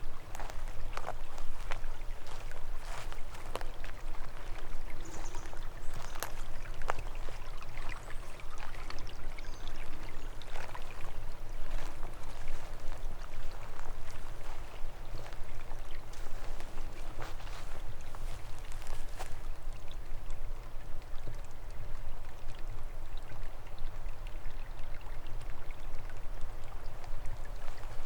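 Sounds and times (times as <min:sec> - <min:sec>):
stream trickling and splashing: 0:00.0 - 0:28.0
water drips: 0:00.0 - 0:28.0.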